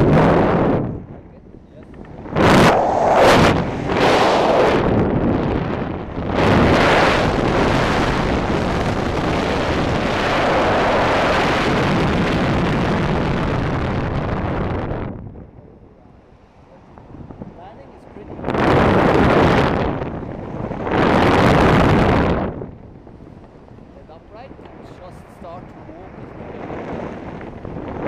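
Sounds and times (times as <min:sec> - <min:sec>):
heavy rush of wind: 0:00.0 - 0:28.0
wind buffeting microphone: 0:00.0 - 0:28.0.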